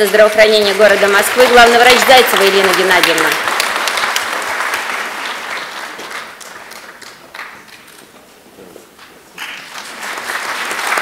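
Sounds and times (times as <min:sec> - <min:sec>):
audience applause: 0:00.1 - 0:08.0, 0:09.4 - 0:11.0.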